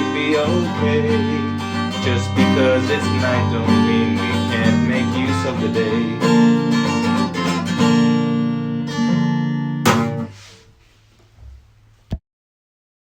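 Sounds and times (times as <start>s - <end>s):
acoustic guitar strumming: 0.0s - 10.7s.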